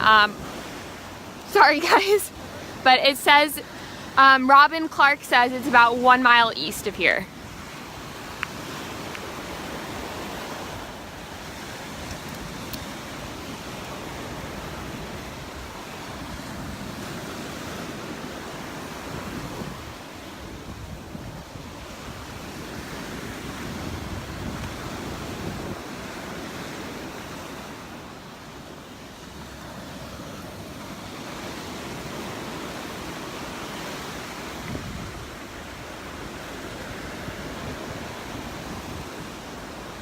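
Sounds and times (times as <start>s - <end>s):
surf washing onto beach: 0.0s - 40.0s
wind on microphone: 5.7s - 28.2s, 29.2s - 40.0s.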